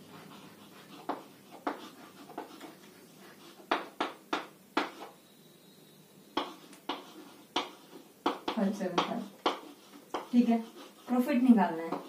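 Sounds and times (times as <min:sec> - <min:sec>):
chalk writing on a blackboard: 0:00.0 - 0:05.2, 0:06.4 - 0:12.0.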